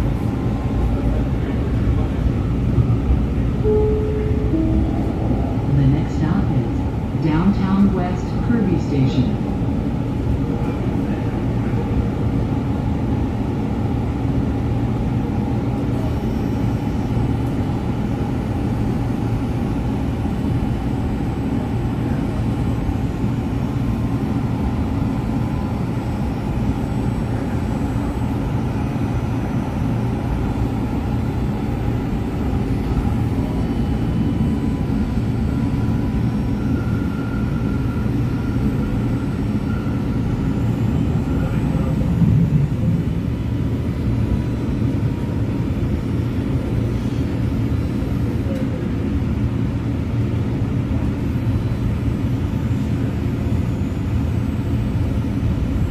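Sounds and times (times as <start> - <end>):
light-rail car rumble: 0.0 - 55.9.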